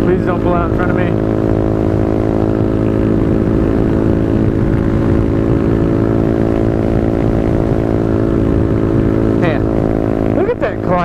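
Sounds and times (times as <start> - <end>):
low wind rumble: 0.0 - 11.0
motorcycle engine cruising: 0.0 - 11.0.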